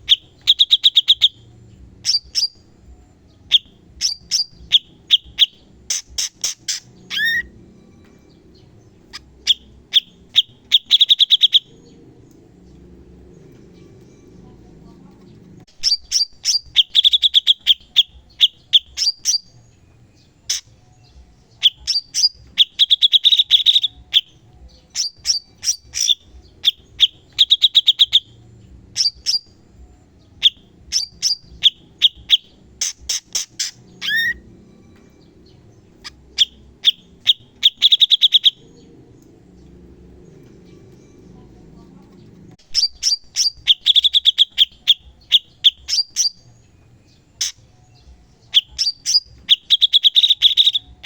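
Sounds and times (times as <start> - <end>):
bird singing rapid trills: 0.0 - 51.0.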